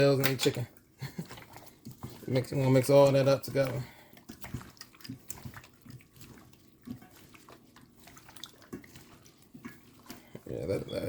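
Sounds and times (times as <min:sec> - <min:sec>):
wet squelching and sloshing: 0:00.0 - 0:11.0.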